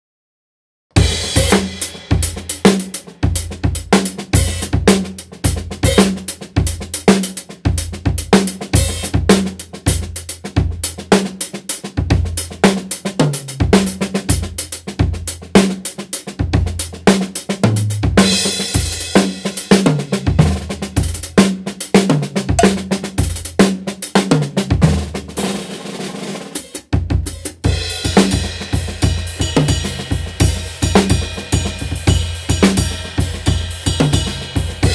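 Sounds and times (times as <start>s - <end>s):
drum kit playing: 0.9s - 34.9s.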